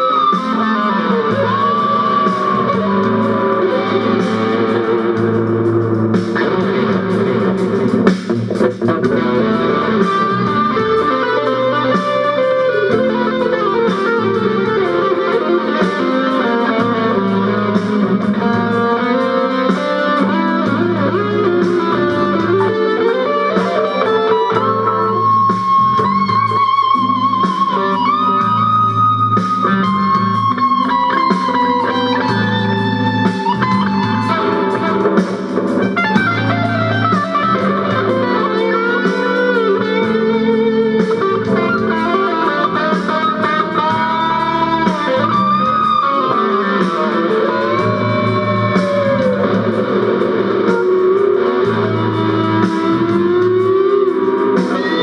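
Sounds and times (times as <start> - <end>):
electric guitar solo: 0.0 - 55.0.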